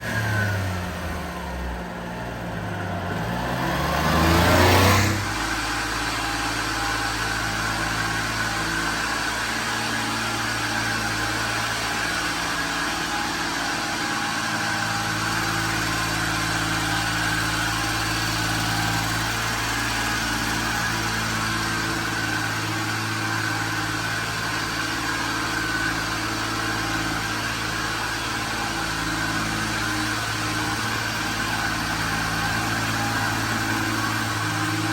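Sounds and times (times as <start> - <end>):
small truck engine idling: 0.0 - 34.9.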